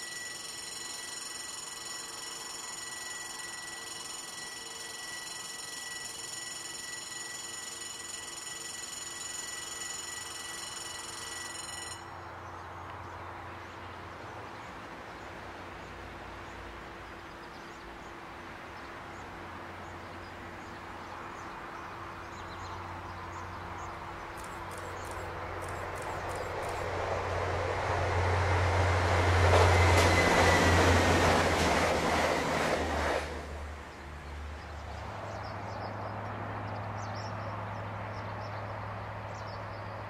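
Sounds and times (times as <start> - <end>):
train running noise: 0.0 - 36.7.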